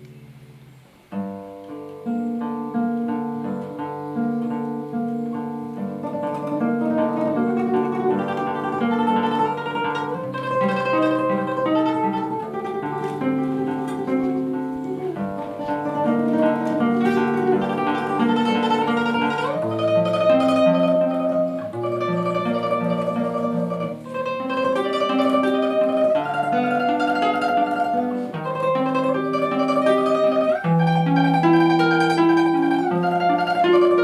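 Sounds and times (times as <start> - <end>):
classical guitar tremolo melody: 0.0 - 34.0.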